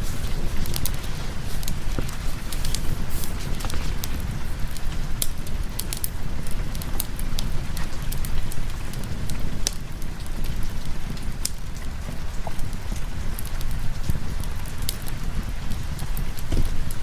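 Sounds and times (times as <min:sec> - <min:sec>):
steady rain: 0:00.0 - 0:17.0
wood fire crackling and popping: 0:00.0 - 0:17.0.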